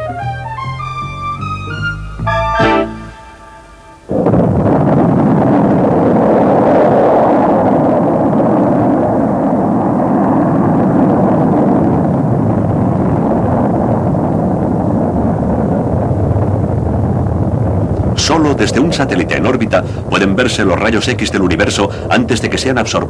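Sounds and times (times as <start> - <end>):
rocket engine roaring: 2.2 - 23.0.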